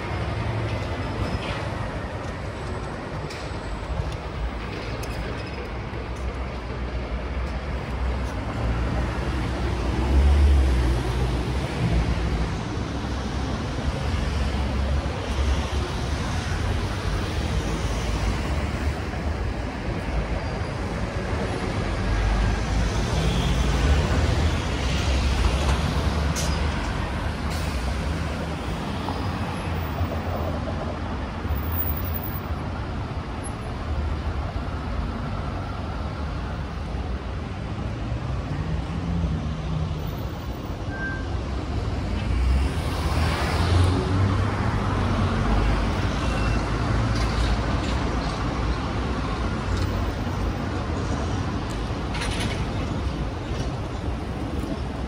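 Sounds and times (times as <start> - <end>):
vehicle engines rumbling: 0.0 - 55.0.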